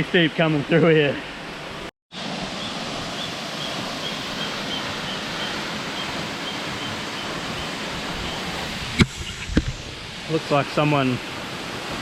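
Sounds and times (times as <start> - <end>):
waterfall rushing: 2.2 - 12.0.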